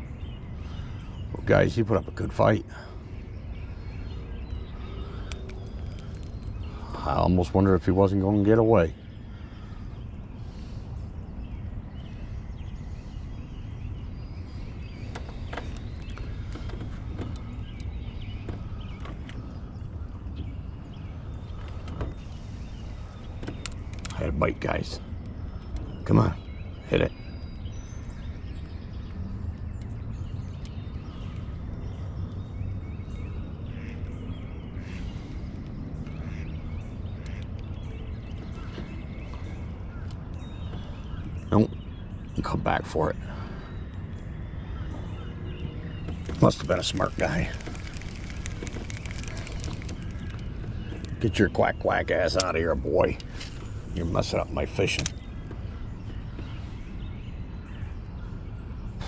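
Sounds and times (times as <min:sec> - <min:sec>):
faint bird chirps: 0:00.0 - 0:59.0
low outdoor rumble: 0:00.0 - 0:59.0.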